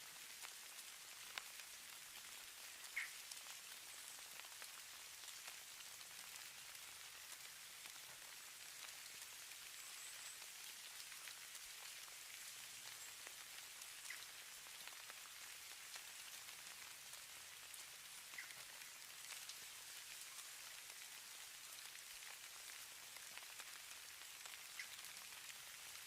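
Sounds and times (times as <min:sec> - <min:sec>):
hiss of falling snow: 0:00.0 - 0:26.0.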